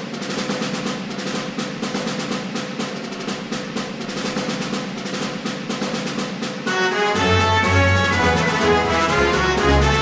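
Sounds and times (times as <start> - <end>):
snare drum roll: 0.0 - 10.0.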